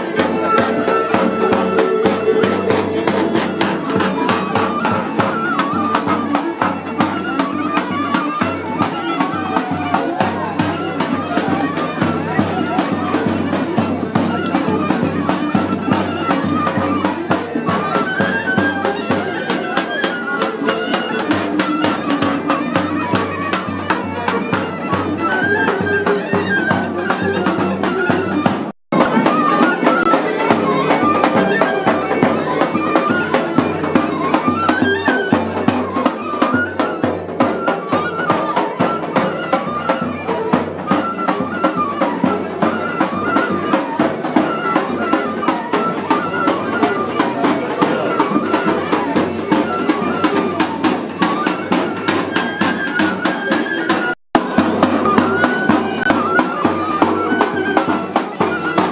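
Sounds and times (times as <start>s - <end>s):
bagpipe folk melody with drone: 0.0s - 58.9s.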